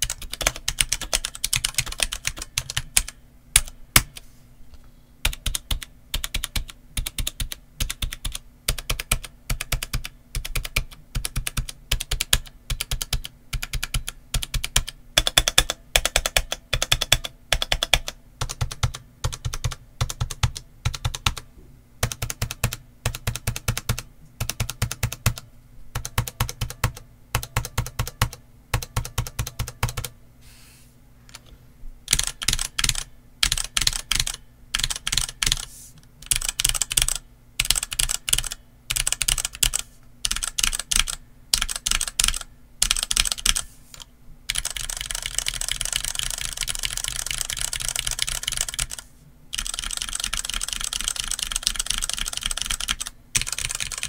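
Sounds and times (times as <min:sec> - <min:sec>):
mechanical keyboard typing: 0:00.0 - 0:04.2, 0:05.2 - 0:21.4, 0:22.0 - 0:30.1, 0:32.1 - 0:54.0.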